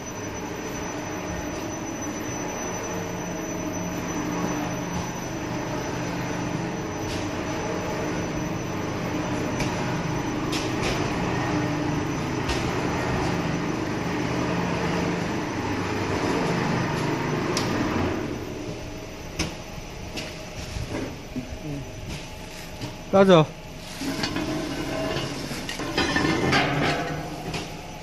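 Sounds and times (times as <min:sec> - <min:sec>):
furnace machinery drone: 0:00.0 - 0:28.0.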